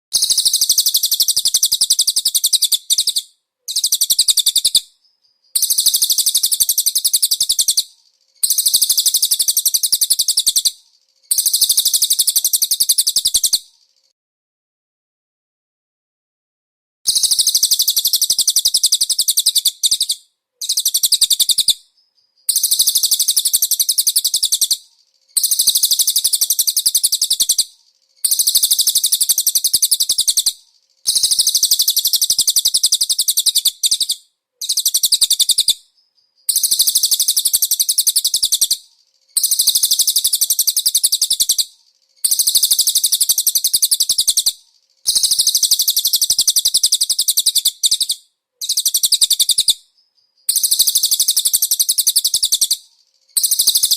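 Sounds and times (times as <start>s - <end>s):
bird singing high-pitched trill: 0.2s - 14.0s, 17.1s - 53.9s.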